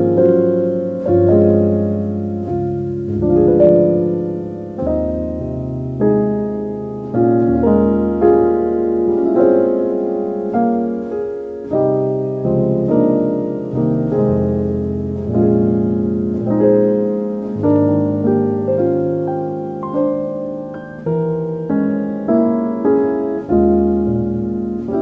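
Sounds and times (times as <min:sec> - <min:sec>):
slow calm piano music: 0:00.0 - 0:25.0.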